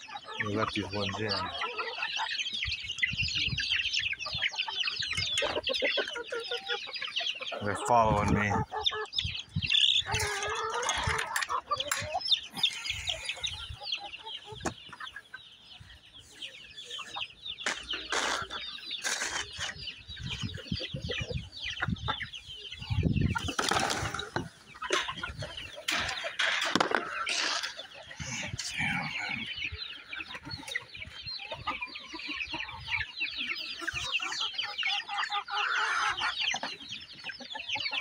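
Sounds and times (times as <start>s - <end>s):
hens and roosters clucking: 0.0s - 38.0s.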